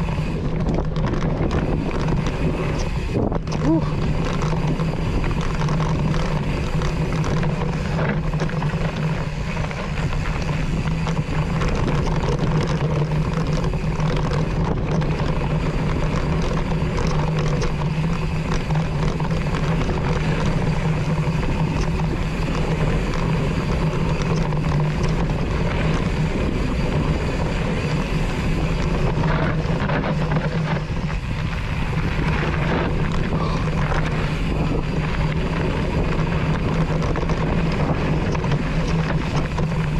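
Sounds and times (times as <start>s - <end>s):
bike tyre and frame rattle: 0.0s - 39.9s
wind noise on microphone: 0.0s - 39.9s.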